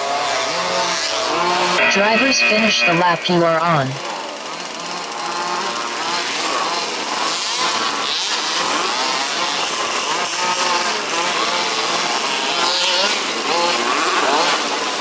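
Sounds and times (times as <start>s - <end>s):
small two-stroke engines racing: 0.0s - 15.0s.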